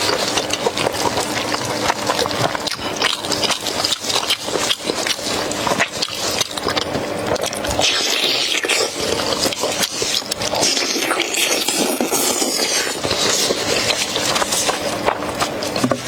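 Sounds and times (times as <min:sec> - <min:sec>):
chewing with wet clicks: 0:00.0 - 0:16.0.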